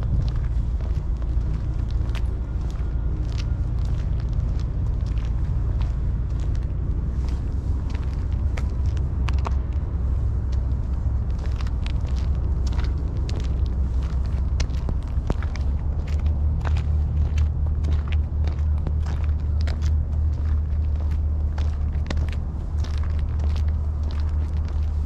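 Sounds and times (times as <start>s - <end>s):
footsteps on gritty asphalt: 0.0s - 25.0s
steady low rumble: 0.0s - 25.0s.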